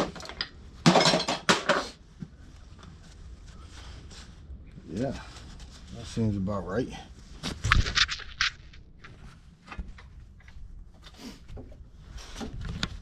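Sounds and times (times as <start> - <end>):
gloved hands rustling and scraping: 2.0 - 13.0.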